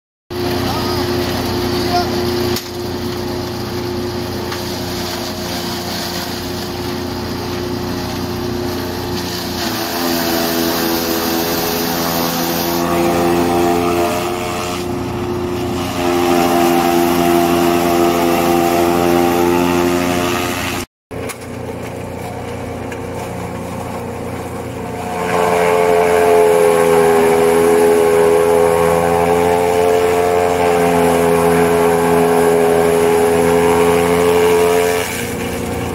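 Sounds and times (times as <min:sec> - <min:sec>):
chaff cutter machine drone: 0:00.3 - 0:35.9.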